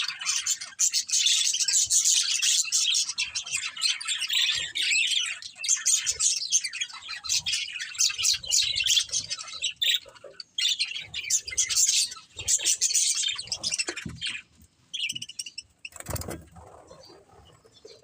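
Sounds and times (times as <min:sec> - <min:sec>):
budgerigars chirping: 0:00.0 - 0:16.2.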